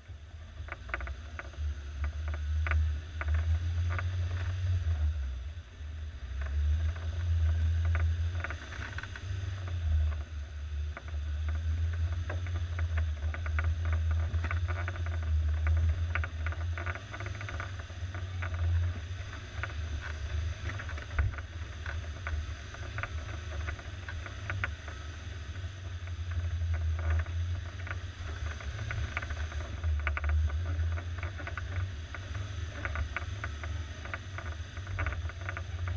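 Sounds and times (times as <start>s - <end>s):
engine running at low speed: 0.0s - 35.9s.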